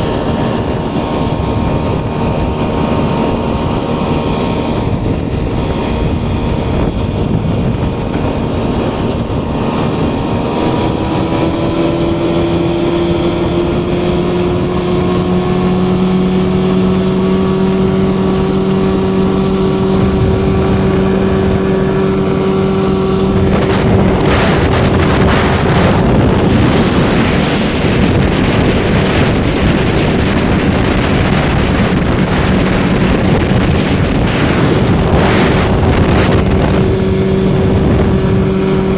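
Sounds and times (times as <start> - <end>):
outboard motor running: 0.0 - 38.9
rush of wind and water: 0.0 - 38.9.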